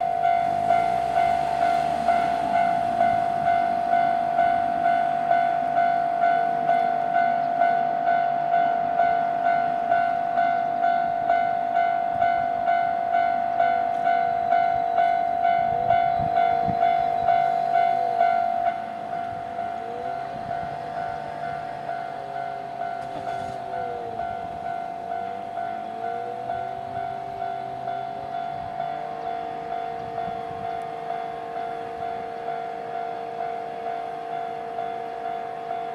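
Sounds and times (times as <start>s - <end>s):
level crossing warning bell dinging: 0.0s - 35.9s
train passing: 0.0s - 35.9s.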